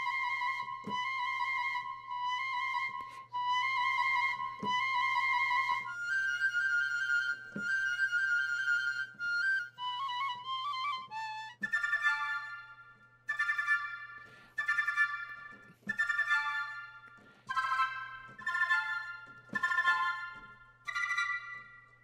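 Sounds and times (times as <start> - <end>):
piccolo playing trills: 0.0 - 22.0.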